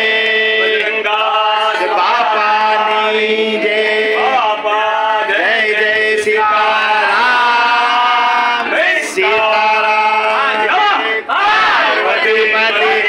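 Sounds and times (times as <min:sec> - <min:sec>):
group singing a chant in unison: 0:00.0 - 0:13.0.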